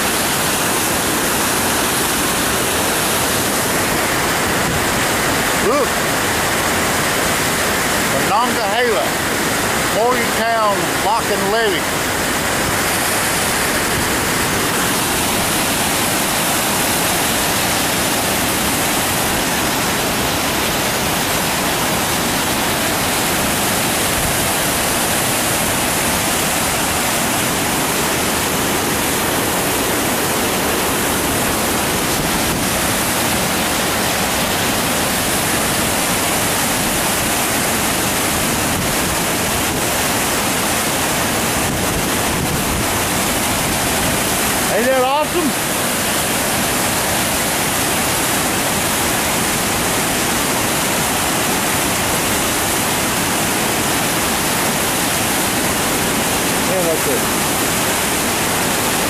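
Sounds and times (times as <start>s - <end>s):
water rushing over dam: 0.0s - 59.0s.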